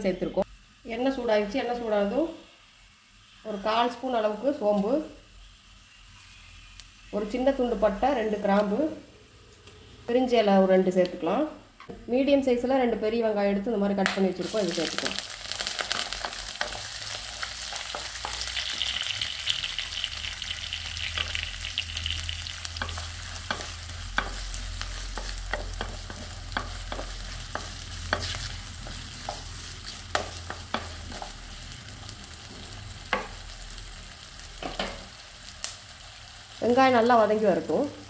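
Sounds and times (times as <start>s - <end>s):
onions frying in hot oil: 0.2s - 11.2s, 13.6s - 38.0s.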